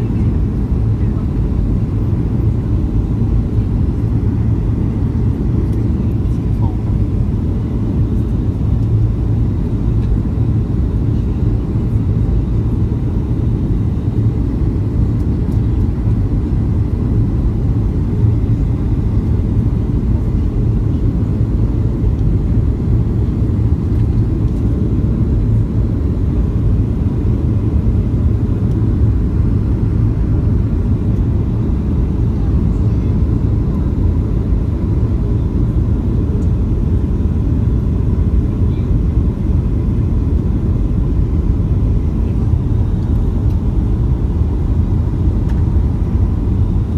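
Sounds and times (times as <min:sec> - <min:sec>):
airliner cabin engine rumble: 0:00.0 - 0:46.9
faint constant hum: 0:00.0 - 0:46.9.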